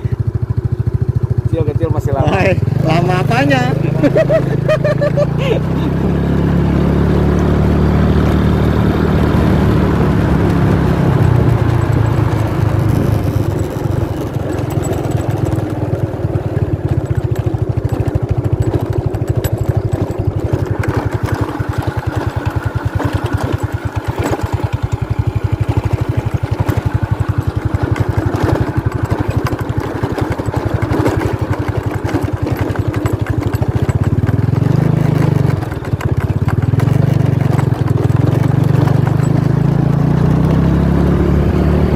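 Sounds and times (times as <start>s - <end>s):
engine running with pulsing note: 0.0s - 41.9s.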